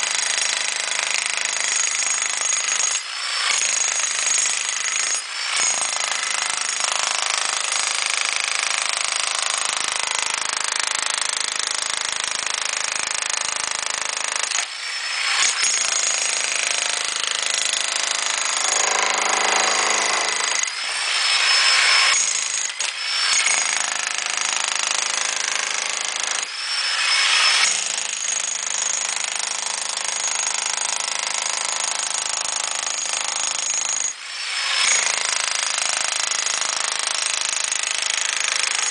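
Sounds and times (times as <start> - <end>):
demolition hammer chiselling brick: 0.0 - 38.9.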